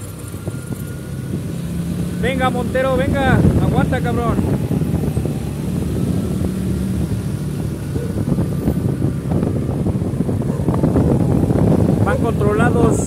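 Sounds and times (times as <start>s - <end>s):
vehicle engine running: 0.0s - 13.0s
wind rumble on microphone: 0.0s - 13.0s.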